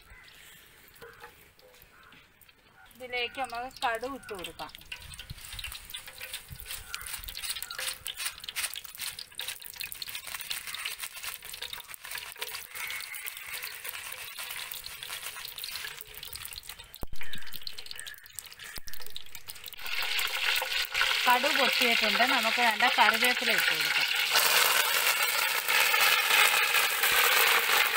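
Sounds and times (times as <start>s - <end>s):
frying hiss: 0.0s - 27.9s
seeds popping in hot oil: 0.0s - 27.9s.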